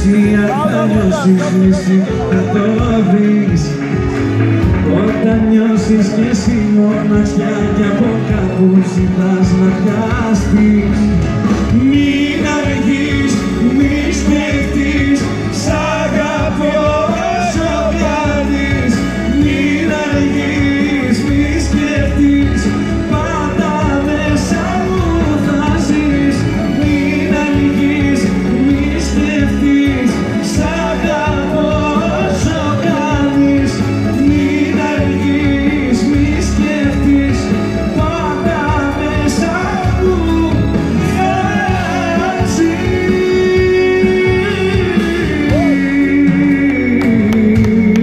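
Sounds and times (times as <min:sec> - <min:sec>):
amplified band with steady beat: 0:00.0 - 0:48.0
man singing into a microphone: 0:00.0 - 0:48.0.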